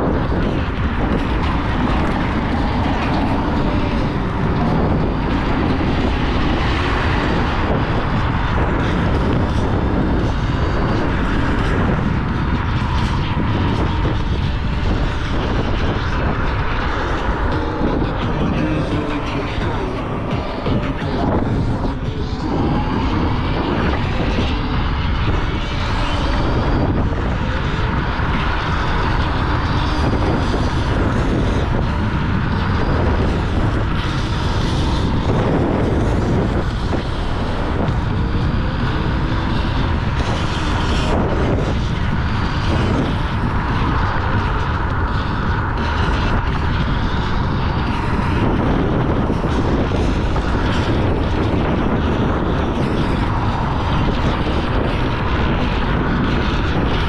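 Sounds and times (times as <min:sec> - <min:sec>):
tyre and road noise: 0:00.0 - 0:57.0
wind buffeting microphone: 0:00.0 - 0:57.0.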